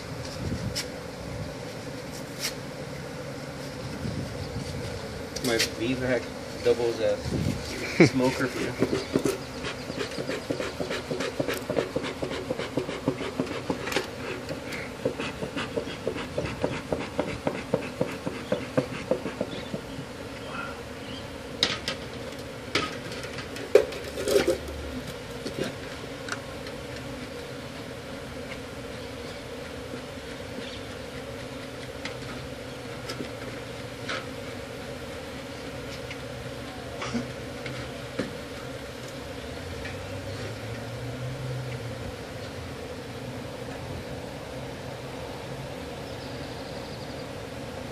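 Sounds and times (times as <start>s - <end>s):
bees buzzing: 0.0s - 47.9s.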